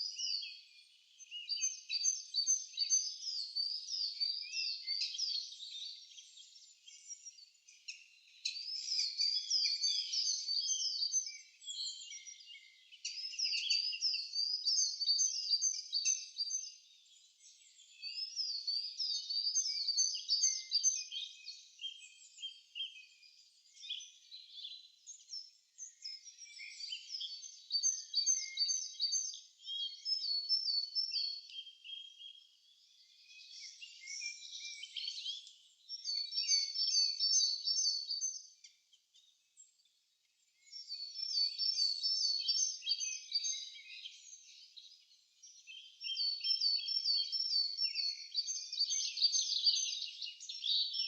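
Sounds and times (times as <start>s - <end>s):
songbirds chirping: 0.0s - 51.0s.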